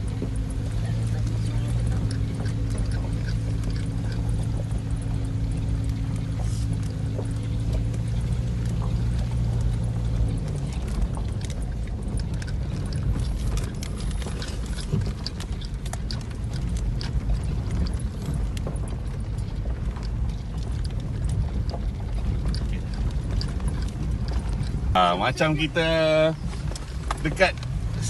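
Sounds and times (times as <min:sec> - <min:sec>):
car engine hum: 0:00.0 - 0:28.0
road rumble from tyres: 0:00.0 - 0:28.0.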